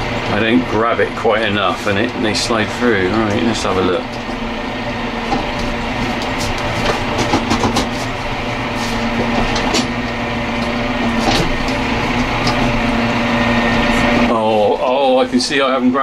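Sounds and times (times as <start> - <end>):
loader clanks and rattles: 0.0 - 15.2
tractor diesel engine running: 0.0 - 16.0.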